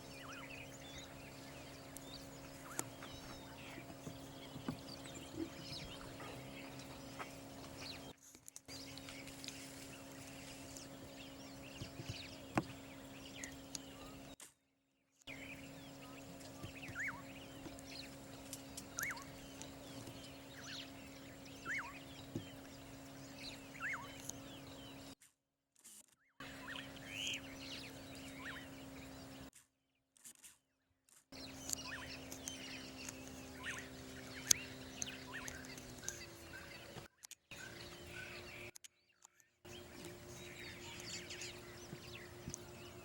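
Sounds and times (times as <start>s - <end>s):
low hum: 0.0s - 8.1s, 8.7s - 14.4s, 15.3s - 25.2s, 26.4s - 29.5s, 31.4s - 38.7s, 39.7s - 43.0s
birds chirping: 0.0s - 14.4s, 15.2s - 25.2s, 26.4s - 29.5s, 31.3s - 43.0s.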